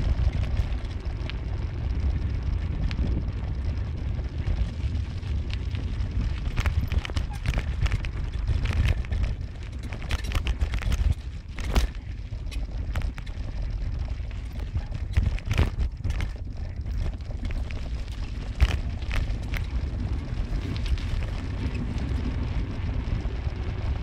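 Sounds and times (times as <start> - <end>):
road and wind noise rumble: 0.0 - 24.0.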